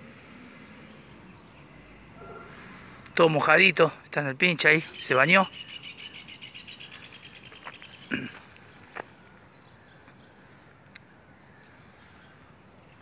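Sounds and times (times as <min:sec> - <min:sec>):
finch singing: 0:00.0 - 0:13.0.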